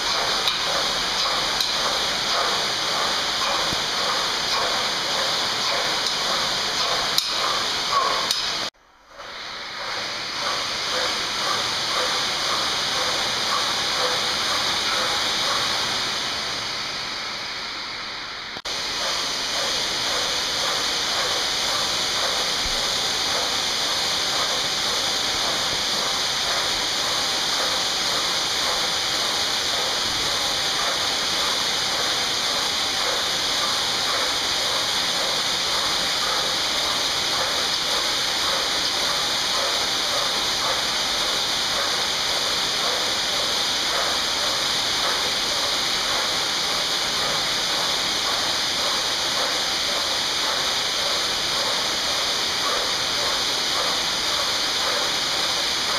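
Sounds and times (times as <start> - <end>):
rhythmic paddle stroke pulse: 0.0 - 16.2, 18.7 - 55.9
flywheel rushing hiss: 0.0 - 55.9.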